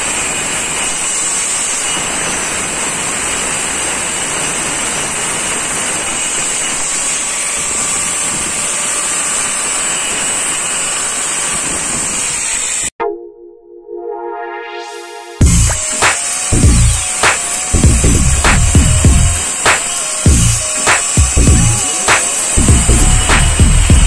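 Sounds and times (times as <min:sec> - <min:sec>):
angle grinder cutting stone: 0:00.0 - 0:12.9, 0:15.4 - 0:24.0.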